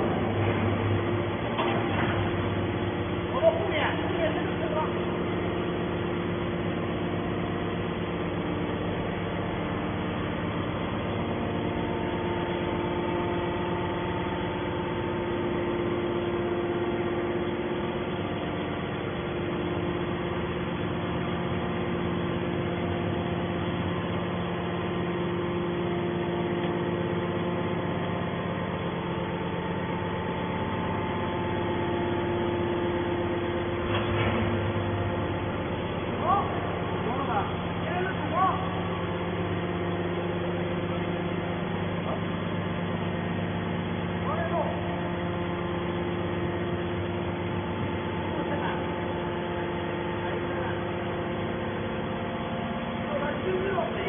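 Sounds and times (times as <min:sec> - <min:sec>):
hydraulic power unit humming: 0:00.0 - 0:54.0.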